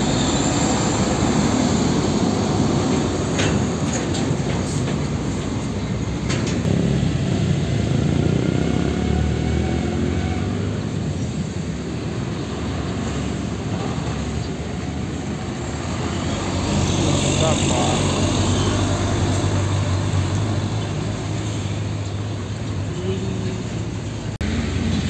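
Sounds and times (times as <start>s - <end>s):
truck passing with tyre noise: 0.0s - 23.0s, 23.6s - 25.0s.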